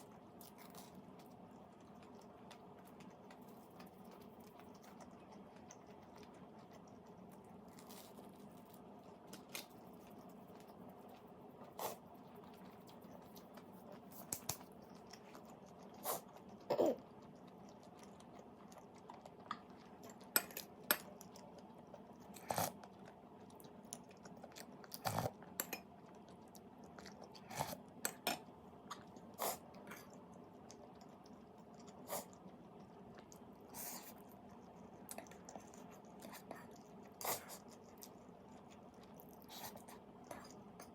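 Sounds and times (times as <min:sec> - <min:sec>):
chewing and crunching food: 0:00.0 - 0:40.9
low background hum: 0:00.0 - 0:40.9.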